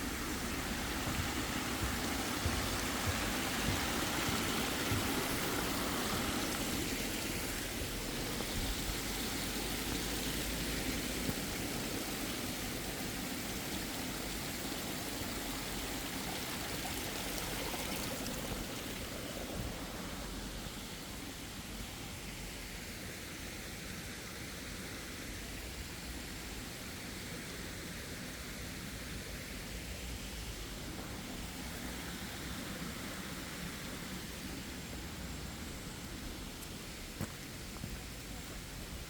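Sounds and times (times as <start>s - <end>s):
stream water flowing: 0.0s - 39.0s.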